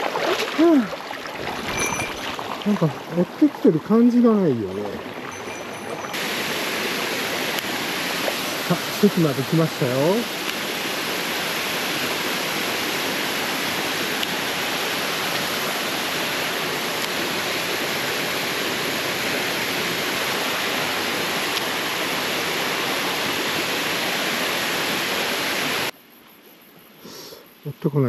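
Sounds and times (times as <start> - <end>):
water rushing over a weir: 0.0 - 25.9.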